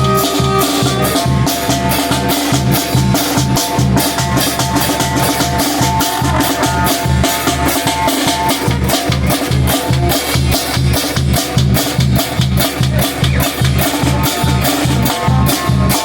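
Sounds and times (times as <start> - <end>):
bass drum and snare beat: 0.0 - 16.0
brass band melody: 0.0 - 16.0.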